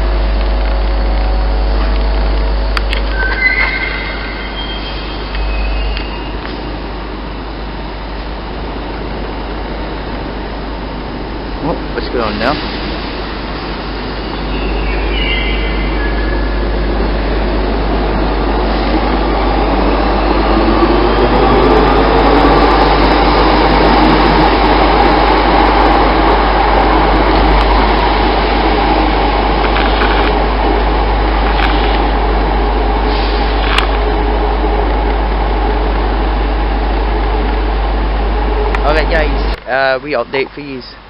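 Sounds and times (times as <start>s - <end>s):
train running noise: 0.0s - 41.0s.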